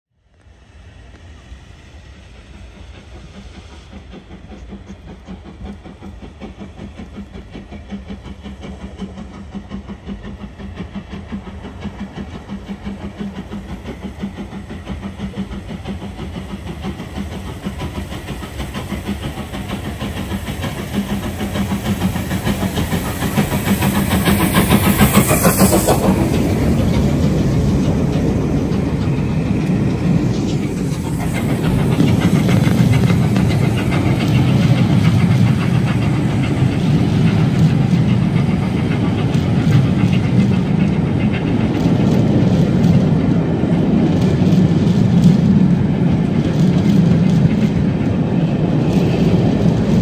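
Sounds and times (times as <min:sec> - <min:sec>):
steam locomotive chuffing and hissing: 0:00.1 - 0:50.0.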